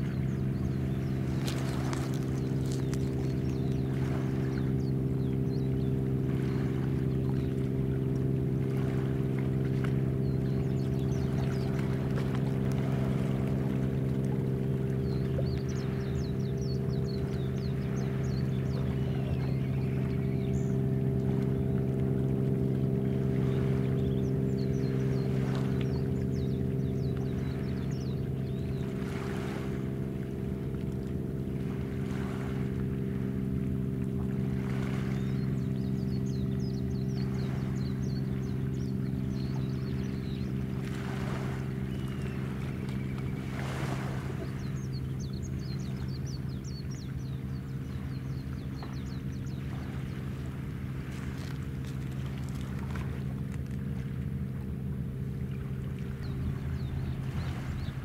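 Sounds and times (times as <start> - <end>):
low machinery drone: 0.0 - 58.0
water washing softly: 0.0 - 58.0.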